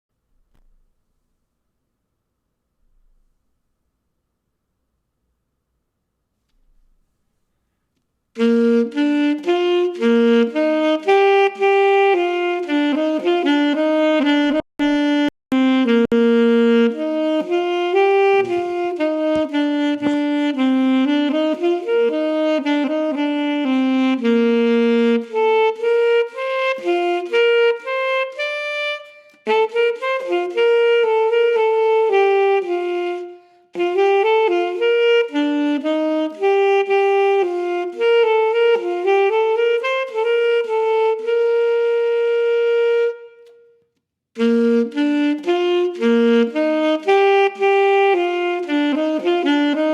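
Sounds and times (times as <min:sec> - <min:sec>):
solo saxophone slow melody: 0:08.4 - 0:49.9.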